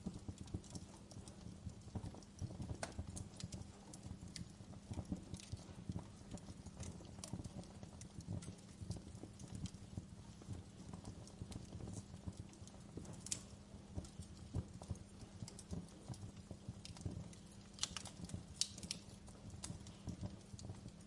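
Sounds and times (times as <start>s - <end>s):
low steady fire rumble: 0.0s - 21.0s
sharp snaps of burning wood: 0.0s - 21.0s
wood fire crackling: 0.0s - 21.0s.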